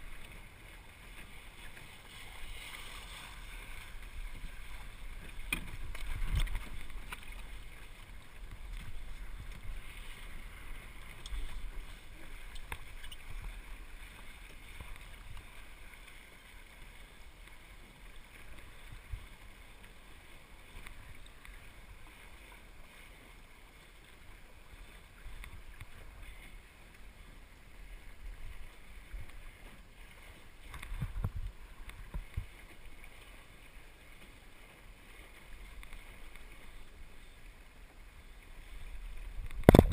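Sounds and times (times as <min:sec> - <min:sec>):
water washing along a boat hull: 0:00.0 - 0:39.9.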